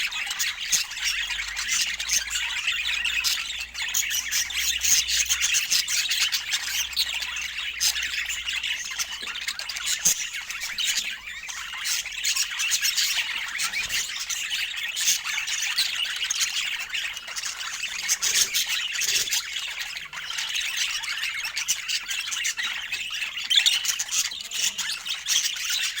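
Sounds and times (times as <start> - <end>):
budgerigar warbling and chirping: 0.0 - 26.0.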